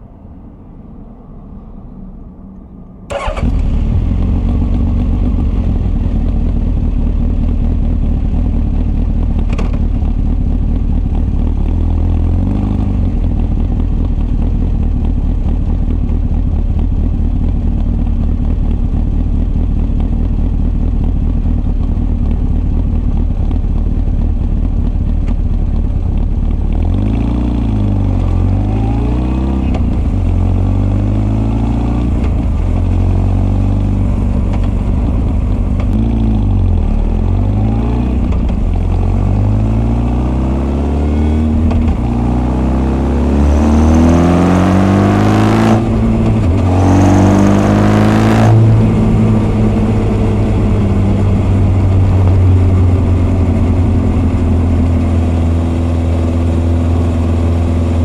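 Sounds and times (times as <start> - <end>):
motorcycle engine revving and accelerating: 3.1 - 58.0.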